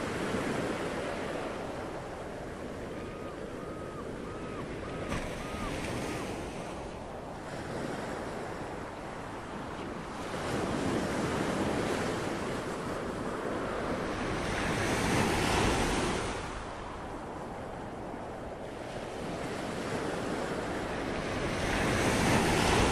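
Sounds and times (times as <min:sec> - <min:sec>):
ocean waves surging: 0:00.9 - 0:08.9, 0:11.6 - 0:22.9.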